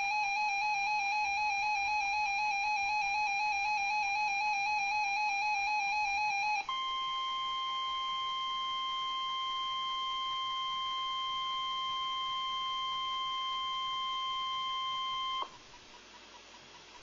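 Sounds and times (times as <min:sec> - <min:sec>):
steady alarm tone: 0:00.0 - 0:15.5.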